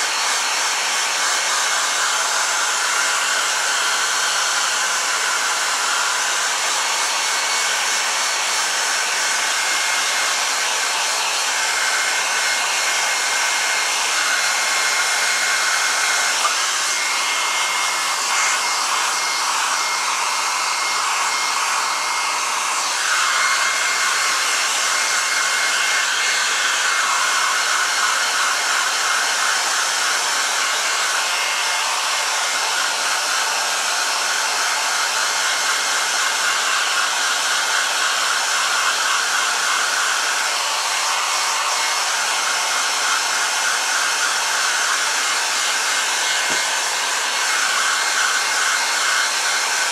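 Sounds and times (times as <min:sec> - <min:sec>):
hair dryer running: 0:00.0 - 0:49.9.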